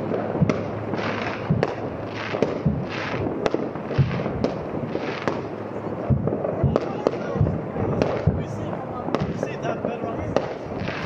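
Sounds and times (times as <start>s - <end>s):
fireworks bangs: 0.0s - 11.0s
fireworks hissing: 0.0s - 11.0s.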